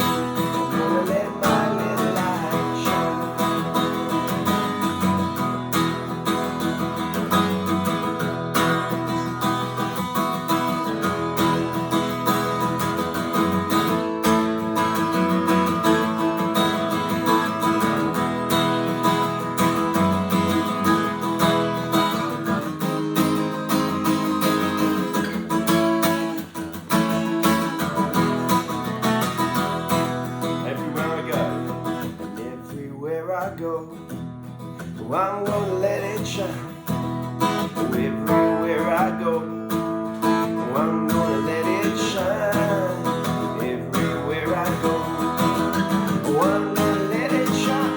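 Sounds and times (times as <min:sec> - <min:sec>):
acoustic guitar strumming: 0:00.0 - 0:47.9.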